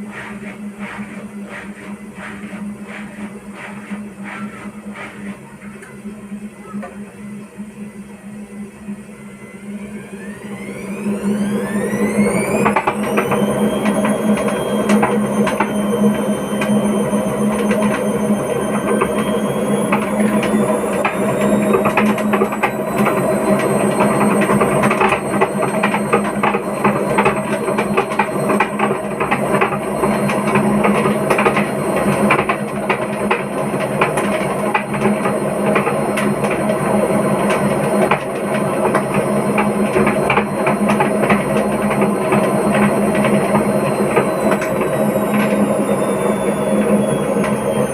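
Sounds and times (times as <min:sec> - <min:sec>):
motor whine: 0:00.0 - 0:47.9
washing machine spinning: 0:00.0 - 0:47.9.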